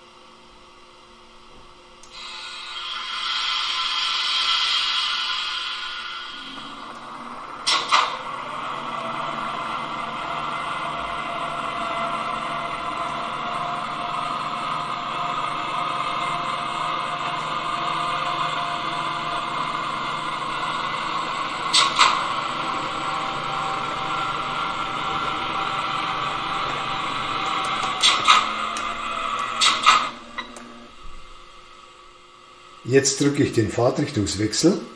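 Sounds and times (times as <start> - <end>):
model locomotive electric hum: 0.0 - 34.9.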